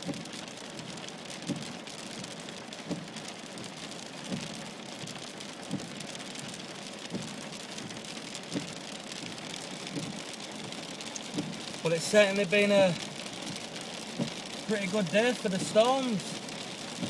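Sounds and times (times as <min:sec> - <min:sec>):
rain and hail on car roof: 0:00.0 - 0:17.0
windscreen wipers thudding: 0:00.0 - 0:17.0.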